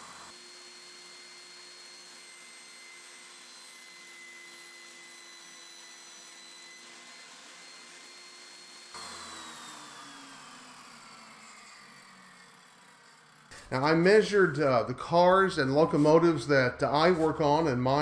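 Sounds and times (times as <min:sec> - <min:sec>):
table saw cutting foam board: 0:00.0 - 0:18.0.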